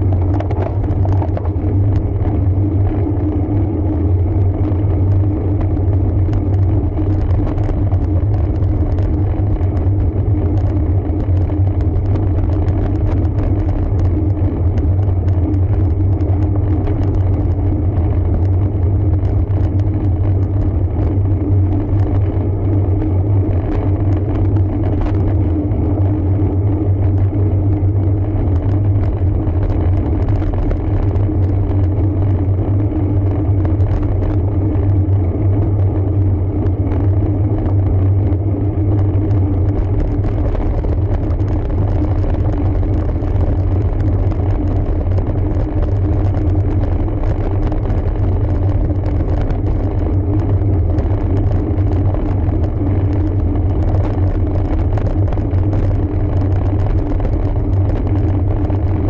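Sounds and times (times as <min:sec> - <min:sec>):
bike tyre noise: 0:00.0 - 0:59.0
wind noise on microphone: 0:00.0 - 0:59.0.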